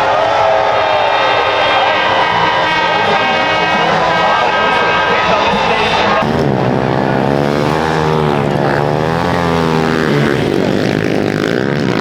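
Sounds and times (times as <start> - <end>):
small motorcycle engine revving: 1.7 - 12.0.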